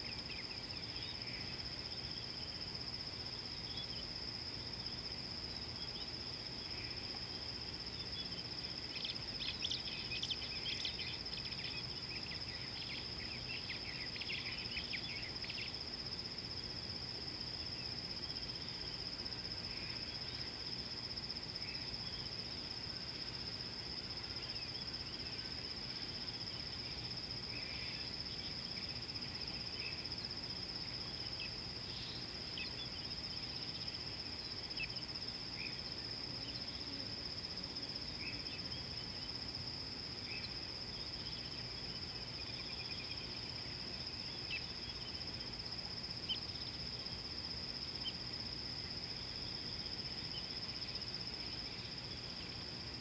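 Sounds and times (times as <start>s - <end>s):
high-pitched insect trill: 0.0s - 53.0s.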